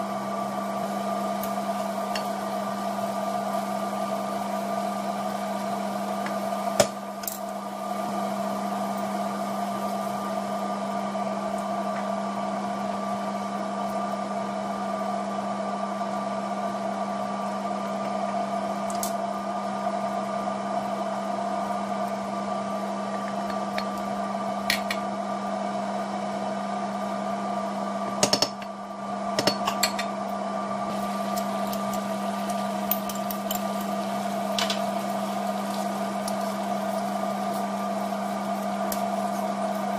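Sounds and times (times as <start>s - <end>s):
kitchen appliance humming: 0.0s - 39.9s.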